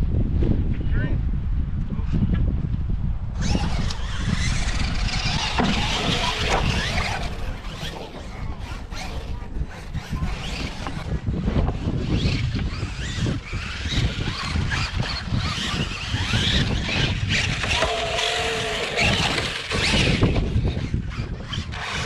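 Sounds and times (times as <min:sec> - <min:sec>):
rumble of tyres and chassis: 0:01.3 - 0:22.0
toy truck motors whining: 0:03.4 - 0:22.0.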